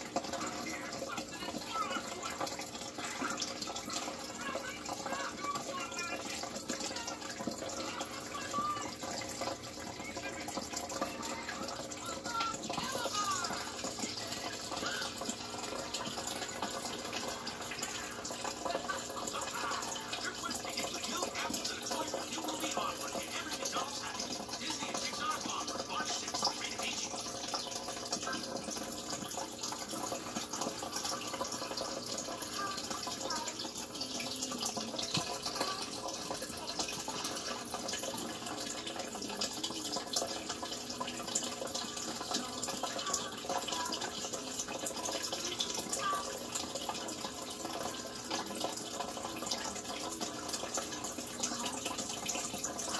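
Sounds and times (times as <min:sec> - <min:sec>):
water splashing into tank: 0:00.0 - 0:52.9.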